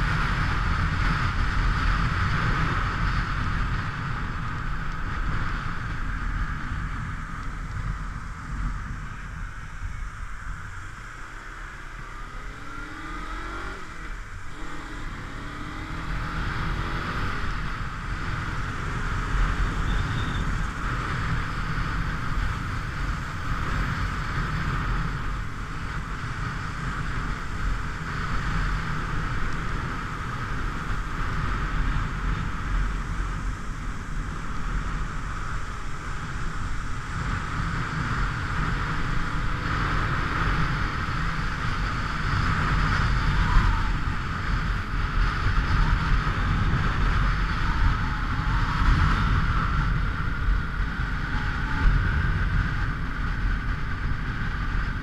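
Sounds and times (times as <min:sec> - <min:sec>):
motorcycle engine: 0:00.0 - 0:55.0
wind rush over microphone: 0:00.0 - 0:55.0.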